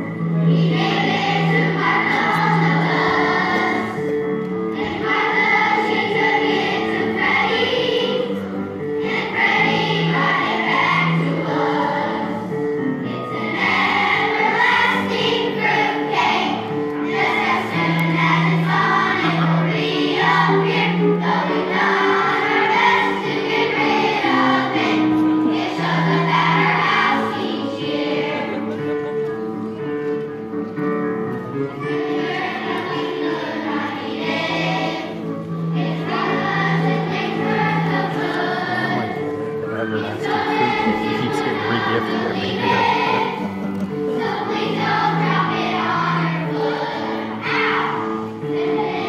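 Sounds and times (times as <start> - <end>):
children's choir singing: 0.0 - 49.0.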